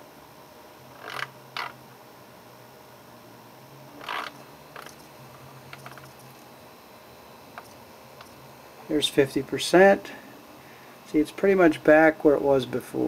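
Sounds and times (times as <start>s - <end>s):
faint low valve hum: 0.0s - 13.0s.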